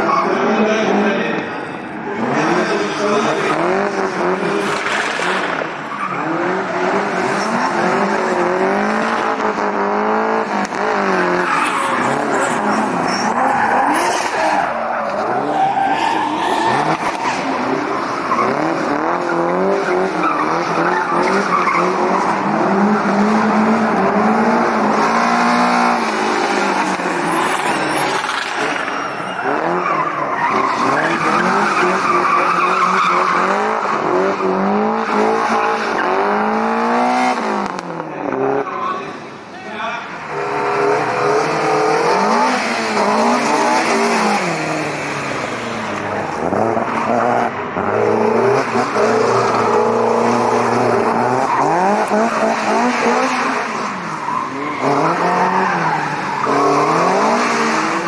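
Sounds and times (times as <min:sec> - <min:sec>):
car engine revving: 0:00.0 - 0:39.4, 0:40.2 - 0:58.0
tyres squealing on asphalt: 0:00.0 - 0:58.0.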